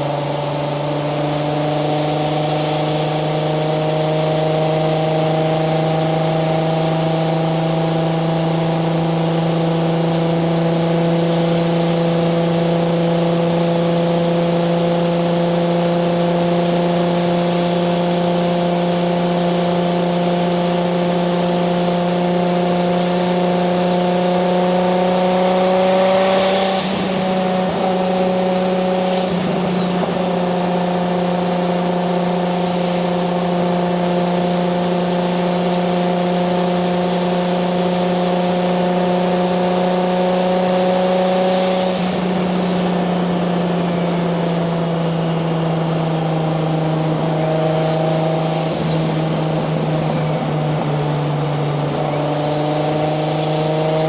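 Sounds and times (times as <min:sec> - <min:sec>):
car engine drone: 0:00.0 - 0:54.0
high turbo whistle: 0:00.0 - 0:54.0.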